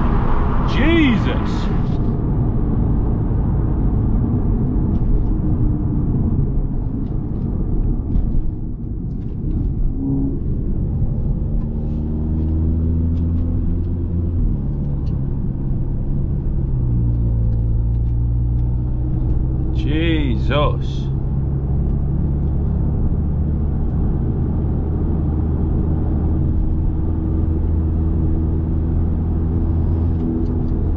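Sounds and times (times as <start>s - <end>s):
heavy road rumble: 0.0s - 30.9s.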